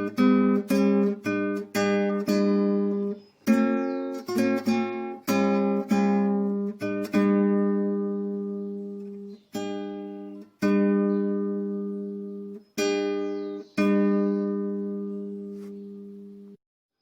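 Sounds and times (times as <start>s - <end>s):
acoustic guitar strummed chords: 0.0s - 16.6s.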